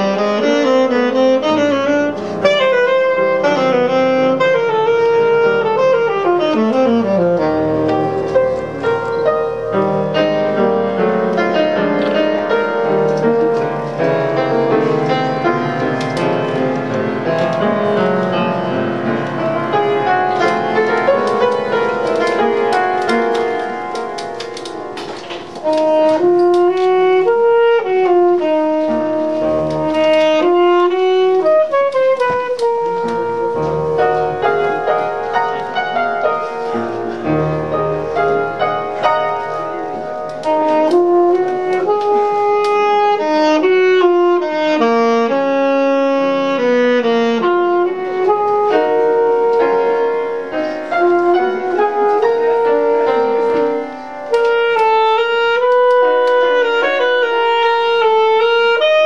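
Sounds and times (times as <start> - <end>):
piano chords: 0.0 - 59.0
saxophone melody: 0.0 - 59.0.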